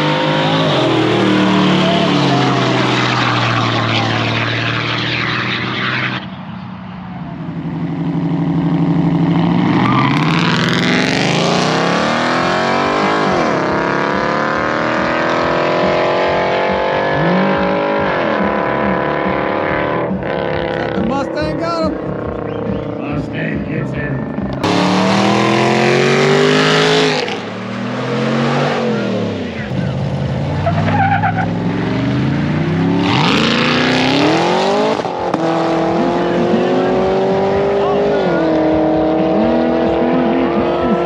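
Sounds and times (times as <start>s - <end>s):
racing car engines revving: 0.0s - 41.0s.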